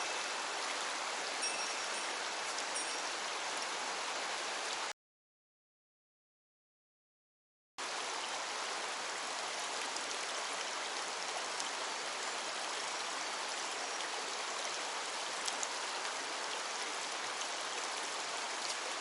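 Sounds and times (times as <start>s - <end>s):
stream water rushing: 0.0s - 4.9s, 7.8s - 19.0s.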